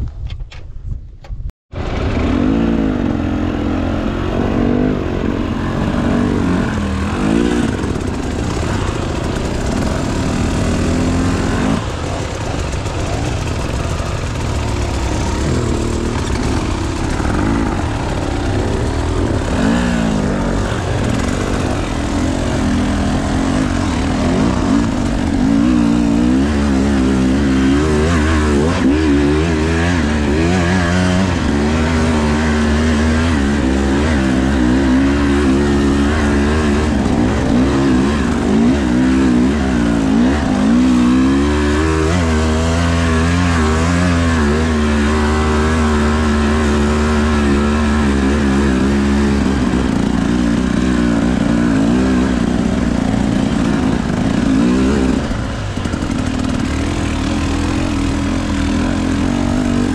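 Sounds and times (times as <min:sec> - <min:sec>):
two-stroke motorcycle engine revving: 0:01.8 - 0:59.9.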